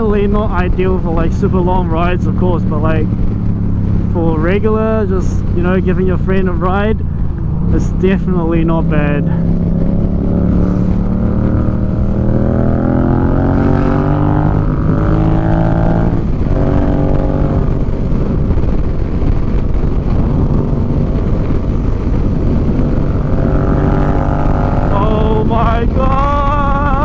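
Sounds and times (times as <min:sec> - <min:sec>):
motorcycle engine accelerating: 0:00.0 - 0:27.0
wind noise on microphone: 0:00.0 - 0:27.0.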